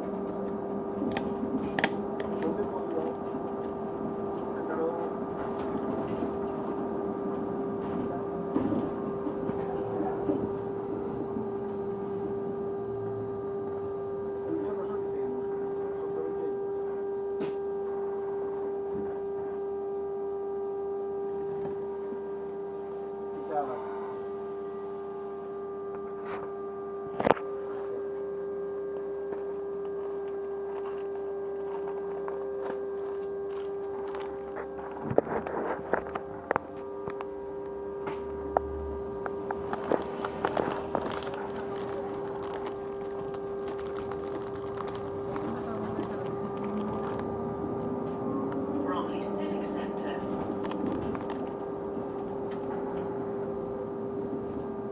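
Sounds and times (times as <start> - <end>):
steady mid-pitched whine: 0.0 - 54.9.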